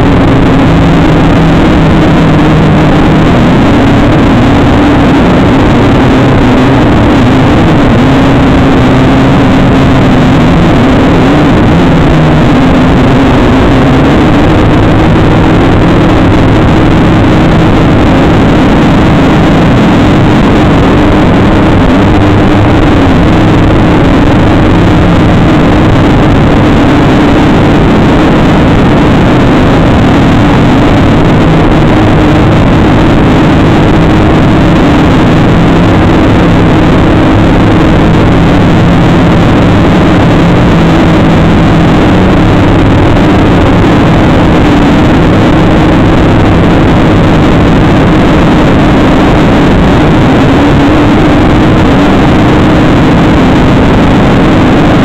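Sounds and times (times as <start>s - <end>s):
drone propellers buzzing: 0.0s - 55.0s.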